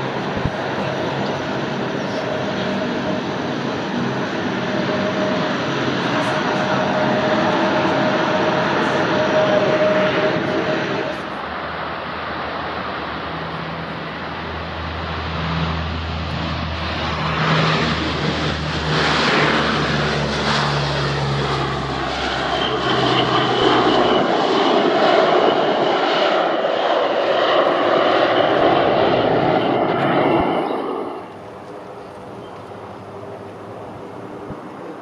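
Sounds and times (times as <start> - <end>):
aircraft engine noise: 0.0 - 35.0
low propeller hum: 0.0 - 35.0.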